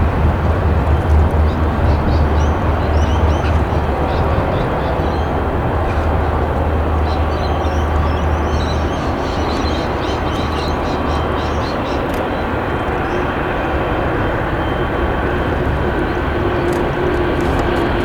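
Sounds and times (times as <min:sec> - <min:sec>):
aircraft engine noise: 0:00.0 - 0:18.0.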